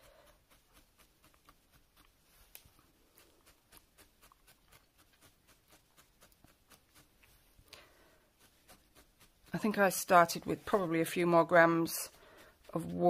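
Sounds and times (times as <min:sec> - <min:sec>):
felting needle ticking into wool: 0:00.0 - 0:13.0.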